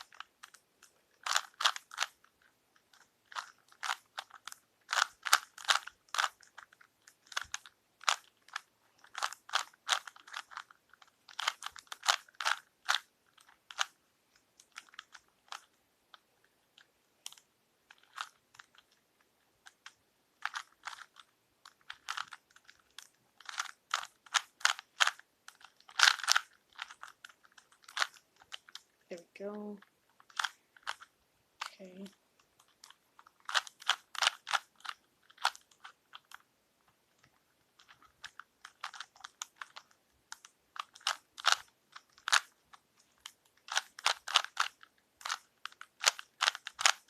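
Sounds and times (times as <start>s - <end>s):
plastic puzzle cube clicking: 0.0s - 47.0s.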